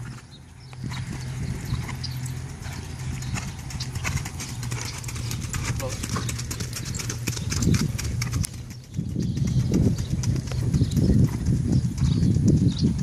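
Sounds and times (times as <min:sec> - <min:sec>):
horse hoofbeats: 0:00.0 - 0:13.0.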